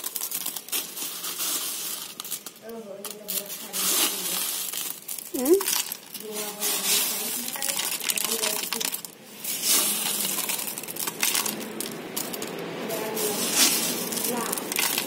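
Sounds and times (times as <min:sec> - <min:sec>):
hailstones clattering: 0:00.0 - 0:15.0.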